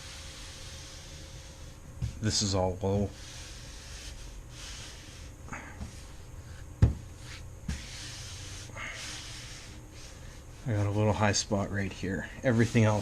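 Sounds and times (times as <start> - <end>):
hand rubbing on metal panel: 0.0 - 13.0.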